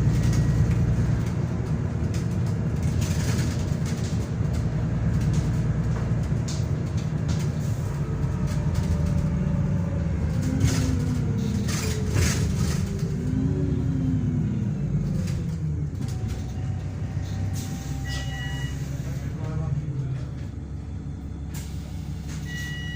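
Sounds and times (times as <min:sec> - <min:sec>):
diesel bus engine rumbling: 0:00.0 - 0:22.9.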